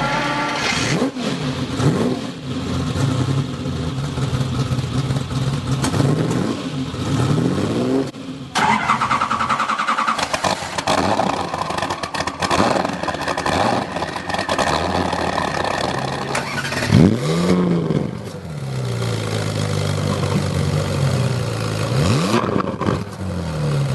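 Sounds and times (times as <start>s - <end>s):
car engines revving: 0.0s - 23.9s.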